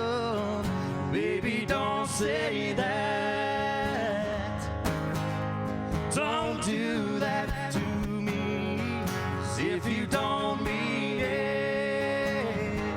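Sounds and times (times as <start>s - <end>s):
man singing: 0.0s - 4.9s, 6.0s - 12.9s
guitar playing: 0.0s - 12.9s.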